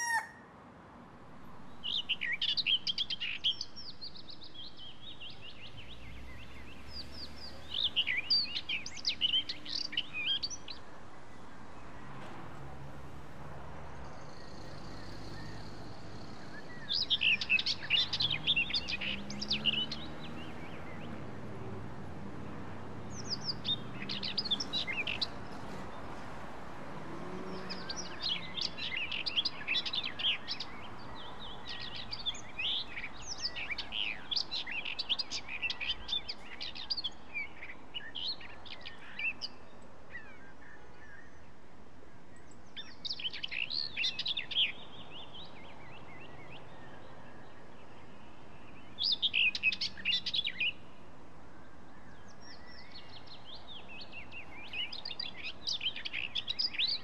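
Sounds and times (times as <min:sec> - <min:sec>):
small birds chirping: 0:00.0 - 0:00.4, 0:01.6 - 0:12.0, 0:14.0 - 0:21.2, 0:23.0 - 0:41.6, 0:42.2 - 0:51.0, 0:51.7 - 0:57.0.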